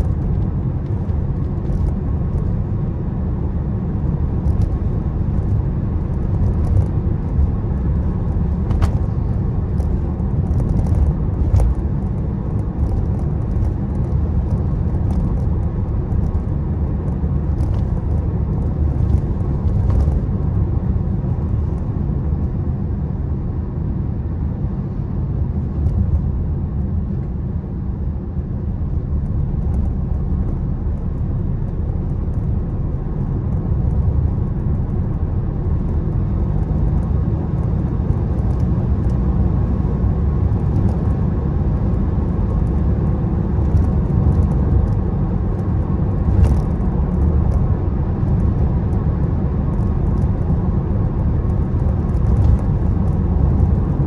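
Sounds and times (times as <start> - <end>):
road and engine rumble in car: 0.0 - 54.0.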